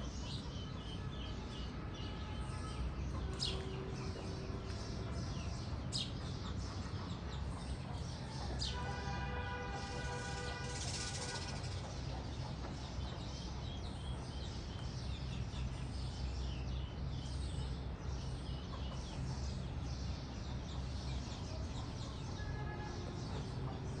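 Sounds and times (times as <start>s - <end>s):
lovebirds chattering: 0.0s - 24.0s.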